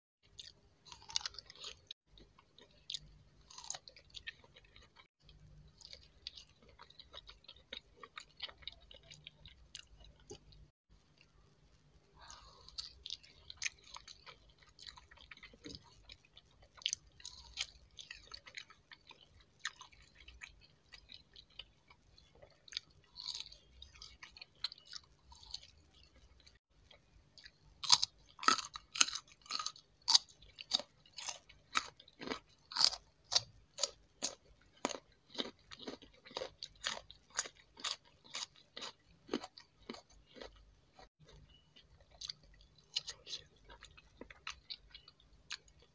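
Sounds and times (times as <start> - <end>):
chewing crisp fruit: 0.2 - 11.4, 12.2 - 45.9.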